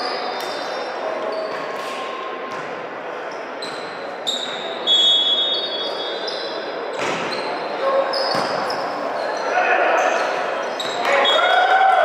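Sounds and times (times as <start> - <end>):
sneakers squeaking on court floor: 0.0 - 1.8, 2.5 - 11.6.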